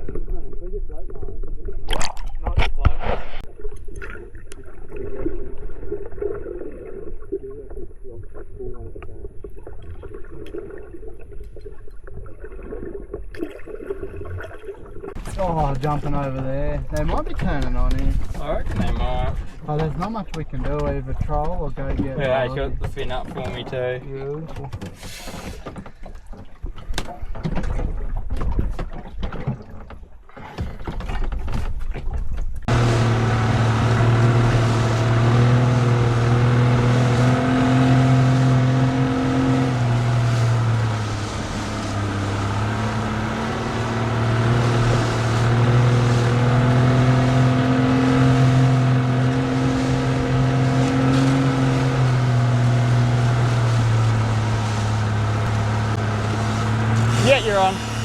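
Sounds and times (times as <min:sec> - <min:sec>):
boat engine running: 0:00.0 - 0:31.7, 0:32.5 - 0:58.0.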